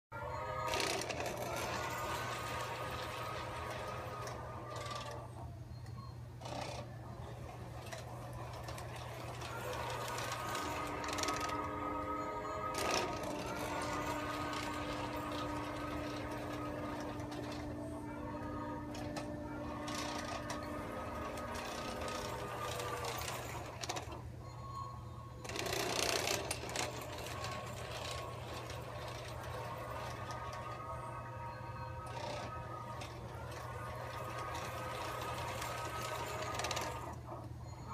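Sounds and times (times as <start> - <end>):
model train motor humming: 0.2 - 37.9.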